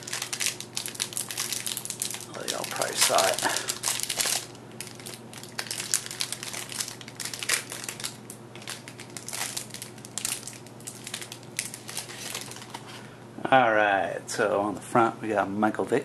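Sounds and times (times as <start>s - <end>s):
plastic wrapper crinkling: 0.0s - 12.9s.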